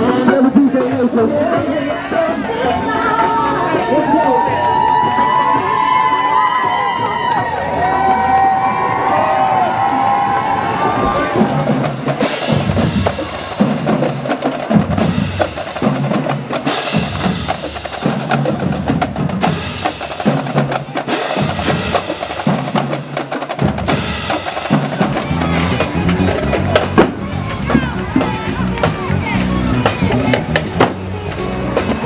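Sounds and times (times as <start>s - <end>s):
bass drum beats: 3.7s - 32.0s
snare drum strokes and rolls: 4.9s - 32.0s.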